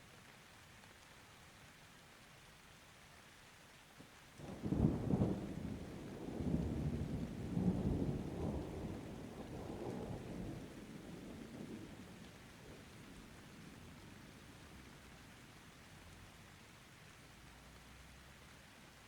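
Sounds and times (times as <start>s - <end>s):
light steady rain: 0.0s - 19.0s.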